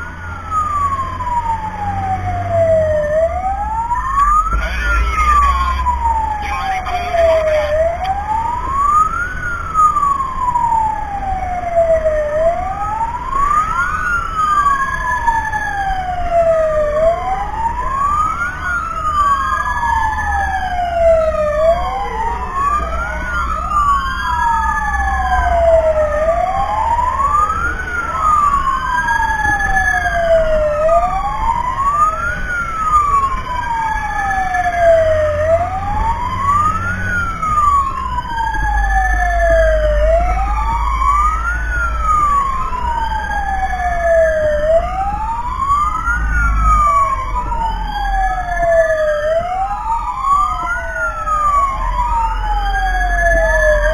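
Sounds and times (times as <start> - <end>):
fire engine sirens wailing: 0.0 - 53.9.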